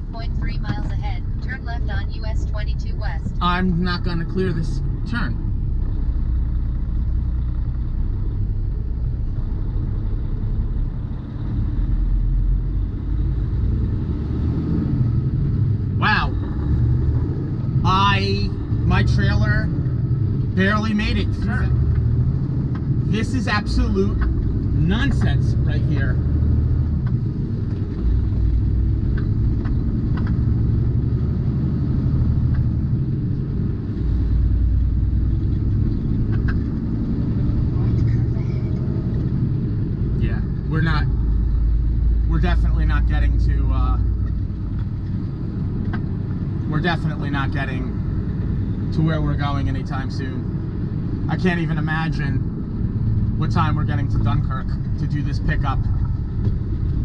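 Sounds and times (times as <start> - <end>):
diesel truck engine rumble: 0.0 - 57.0.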